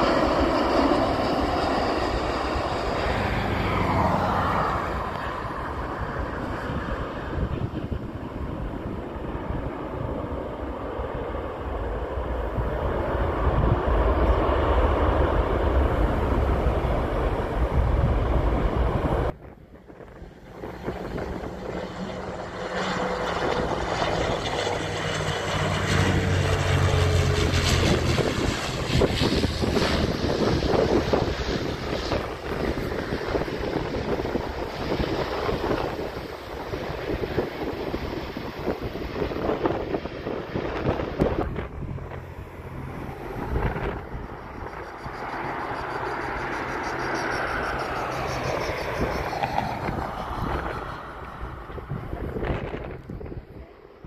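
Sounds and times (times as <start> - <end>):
jet engines rumbling: 0.0 - 54.0
turboprop drone and whine: 0.0 - 54.0
wind on microphone: 0.0 - 54.0.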